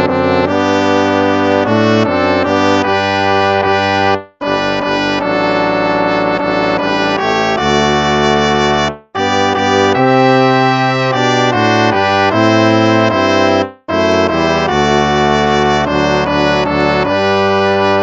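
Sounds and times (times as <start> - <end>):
brass hymn chords: 0.0 - 18.0.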